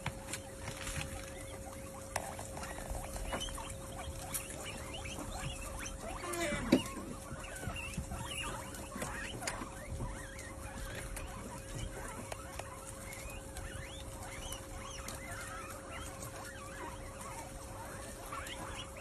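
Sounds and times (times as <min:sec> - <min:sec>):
small animals squeaking and chirping: 0:00.0 - 0:19.0.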